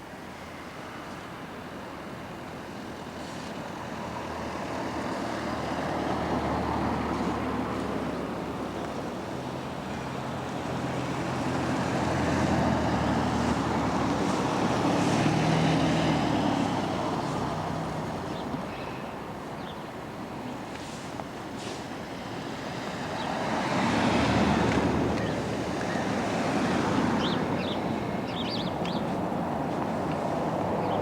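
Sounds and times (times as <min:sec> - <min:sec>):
vehicles driving past: 0:00.0 - 0:31.0.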